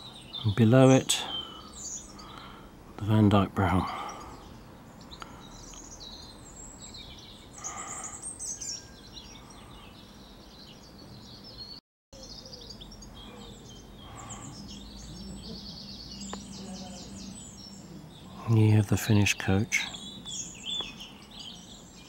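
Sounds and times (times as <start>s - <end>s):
birds chirping and singing: 0.0s - 22.0s.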